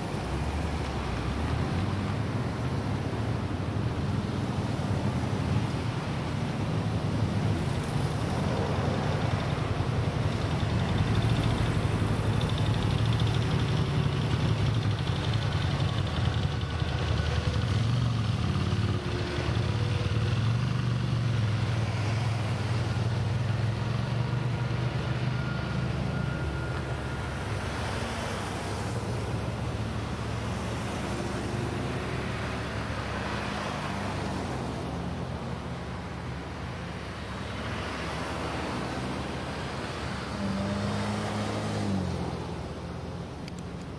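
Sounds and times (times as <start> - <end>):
diesel locomotive engine drone: 5.8 - 43.9.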